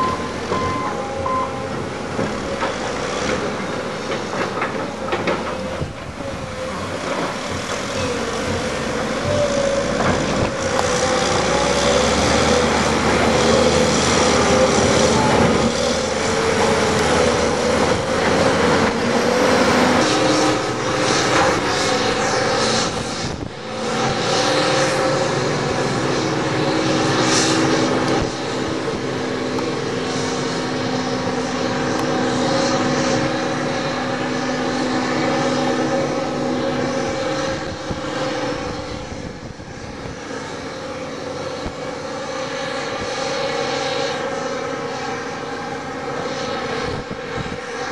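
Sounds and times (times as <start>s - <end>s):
diesel engines droning: 0.0s - 47.9s.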